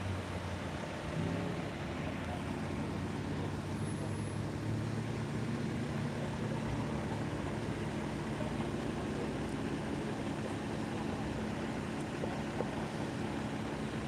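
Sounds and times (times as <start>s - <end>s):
car engines passing slowly: 0.0s - 14.0s.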